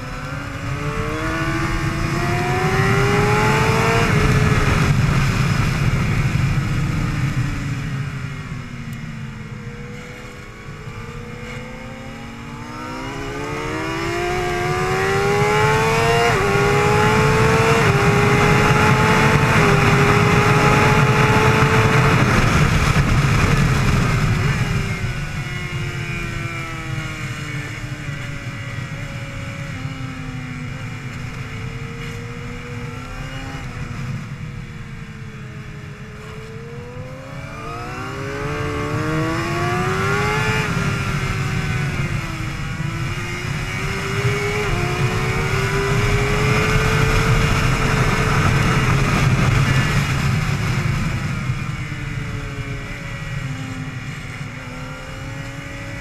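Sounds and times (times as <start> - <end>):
heavy wind rush: 0.0 - 56.0
motorcycle engine revving: 0.0 - 56.0.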